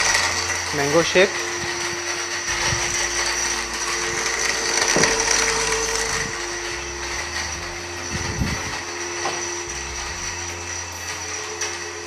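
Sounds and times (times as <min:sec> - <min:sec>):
blender motor hum: 0:00.0 - 0:12.0
ice churning rattle: 0:00.0 - 0:12.0.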